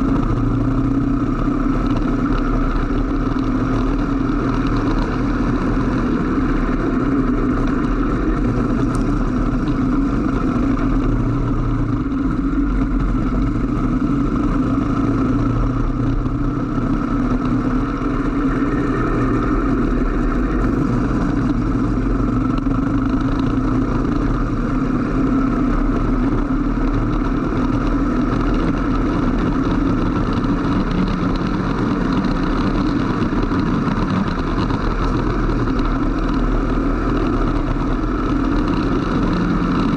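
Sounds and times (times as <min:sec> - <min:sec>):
go-kart engine at speed: 0:00.0 - 0:39.9.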